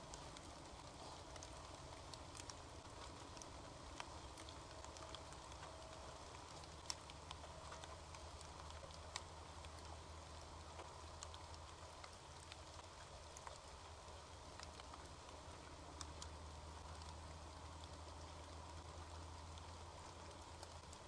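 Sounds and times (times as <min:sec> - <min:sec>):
low hiss: 0:00.0 - 0:21.0
small ticks and clicks: 0:00.0 - 0:21.0.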